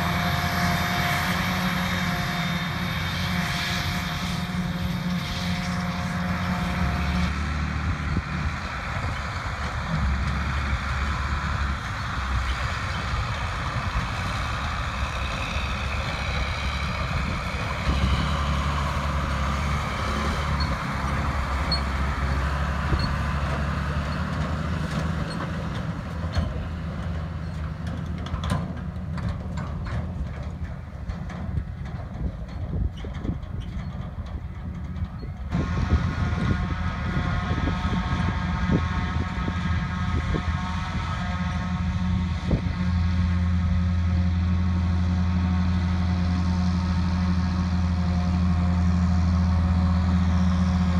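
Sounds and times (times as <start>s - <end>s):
diesel machinery engine drone: 0.0s - 50.9s.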